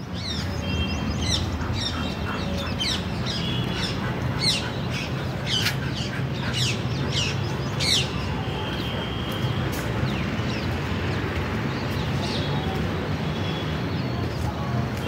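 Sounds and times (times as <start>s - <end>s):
birds chirping: 0.0s - 14.6s.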